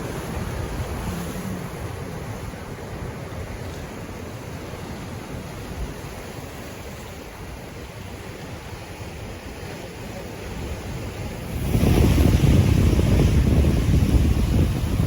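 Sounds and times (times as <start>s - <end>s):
ocean surf washing in: 0.0s - 15.0s.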